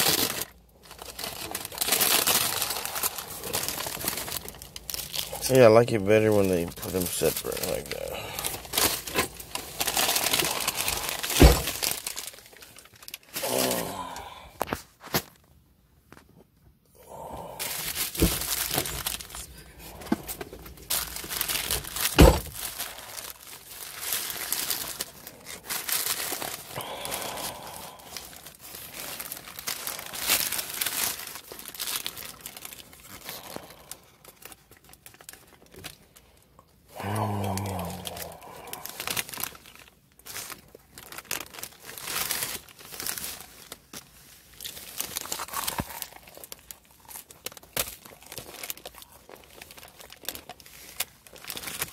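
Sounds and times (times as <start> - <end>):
plastic and paper wrapper crinkling: 0.0 - 16.4, 17.1 - 51.9.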